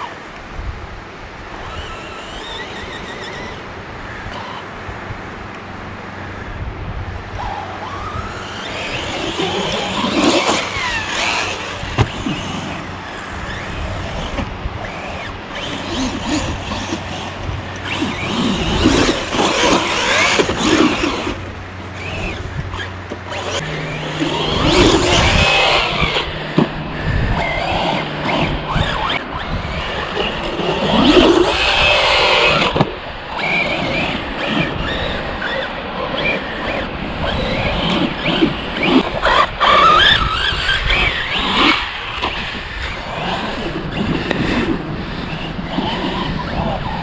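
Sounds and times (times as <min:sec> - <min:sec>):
electric motor whining: 0:01.4 - 0:04.8, 0:07.2 - 0:47.0.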